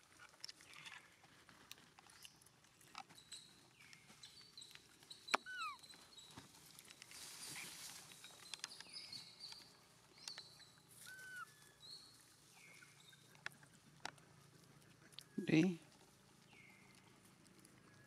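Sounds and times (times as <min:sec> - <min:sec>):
leaves and twigs rustling: 0:00.0 - 0:18.0.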